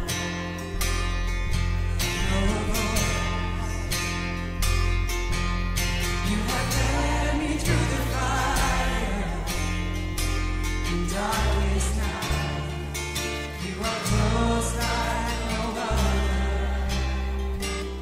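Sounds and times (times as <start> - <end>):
voices singing: 0.0 - 1.1, 1.7 - 4.5, 6.0 - 18.0
bass notes: 0.0 - 18.0.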